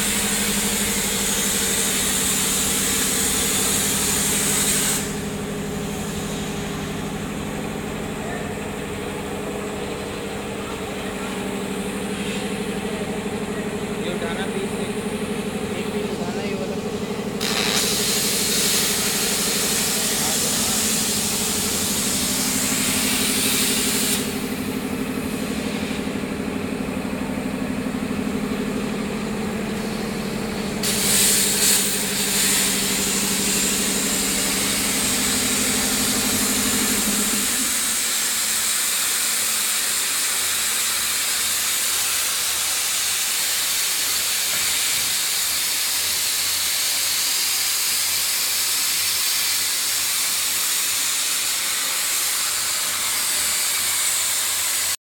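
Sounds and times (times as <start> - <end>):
workshop machinery hiss: 0.0 - 55.0.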